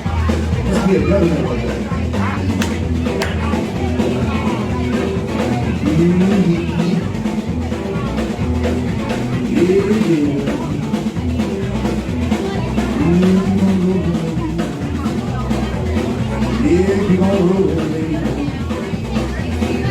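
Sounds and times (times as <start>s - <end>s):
bass guitar: 0.0s - 19.9s
drum kit beat: 0.0s - 19.9s.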